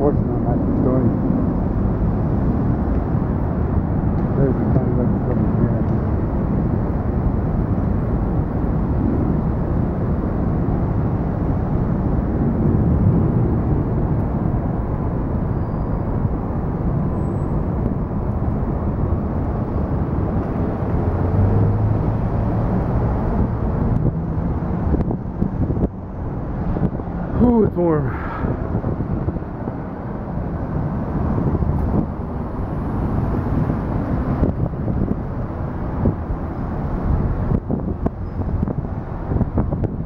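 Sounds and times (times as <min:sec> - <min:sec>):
low engine hum: 0:00.0 - 0:40.0
road traffic rumble: 0:00.0 - 0:40.0
wind on microphone: 0:00.0 - 0:40.0.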